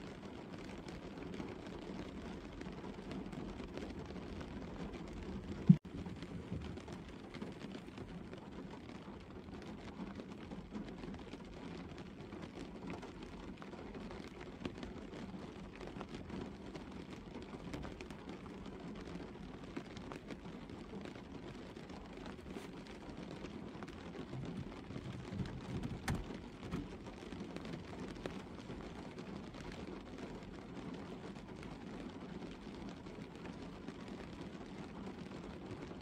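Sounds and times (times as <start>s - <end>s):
rain on car roof: 0.0s - 36.0s.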